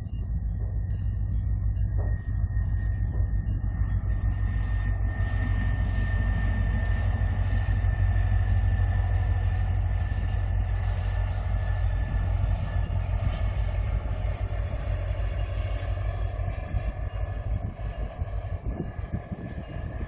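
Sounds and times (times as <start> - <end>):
locomotive engine drone: 0.0 - 20.0
wheels on rails: 0.0 - 20.0.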